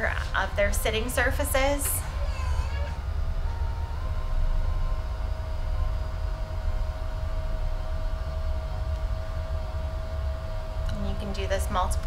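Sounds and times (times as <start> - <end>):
electric motor whine: 0.0 - 12.0
low hum: 0.0 - 12.0.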